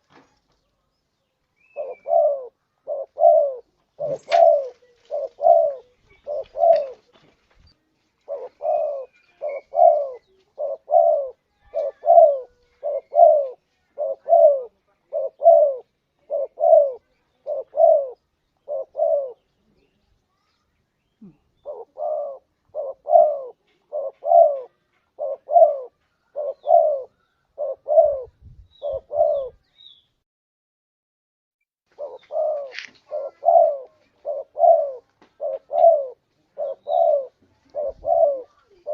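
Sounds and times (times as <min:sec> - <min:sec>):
doves cooing: 0:01.6 - 0:07.3, 0:08.2 - 0:19.6, 0:21.2 - 0:29.6, 0:31.9 - 0:38.9.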